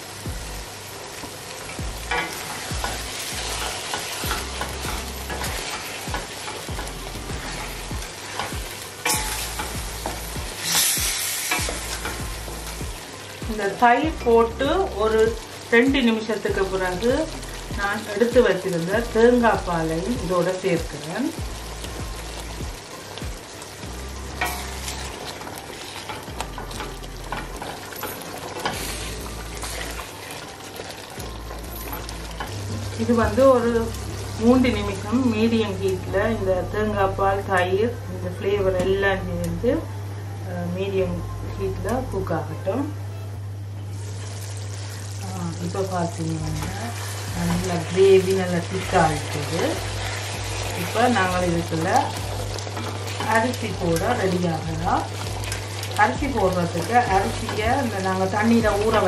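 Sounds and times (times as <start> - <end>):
food sizzling: 0.0 - 59.0.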